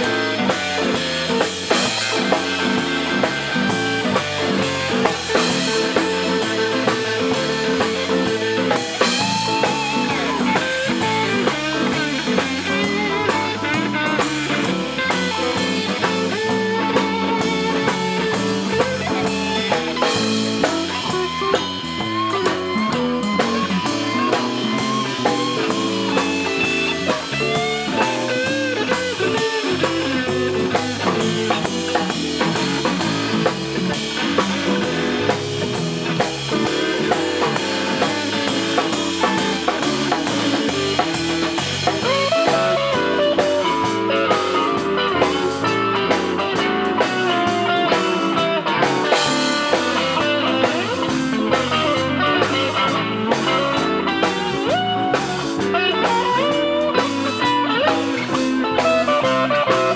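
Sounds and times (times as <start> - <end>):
blues-rock band playing: 0.0 - 59.9
lead guitar with bent notes: 0.0 - 59.9.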